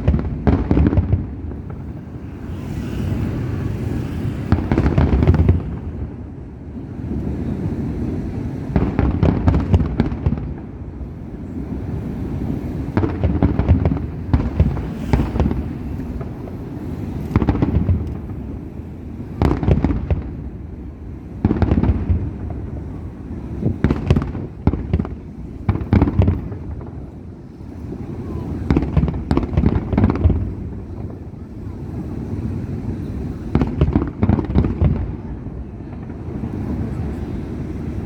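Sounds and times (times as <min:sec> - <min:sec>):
fireworks bangs and crackles: 0:00.0 - 0:38.0
low rumble of distant bursts: 0:00.0 - 0:38.0.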